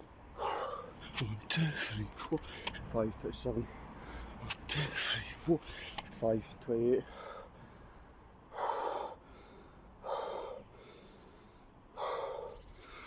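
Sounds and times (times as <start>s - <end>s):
man breathing heavily: 0.3s - 2.9s, 3.6s - 6.2s, 7.0s - 13.0s.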